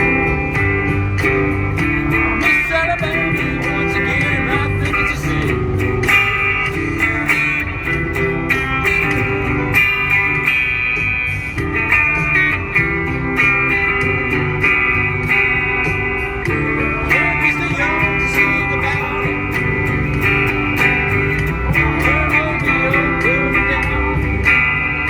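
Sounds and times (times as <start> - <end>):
electric guitar riff: 0.0 - 25.0.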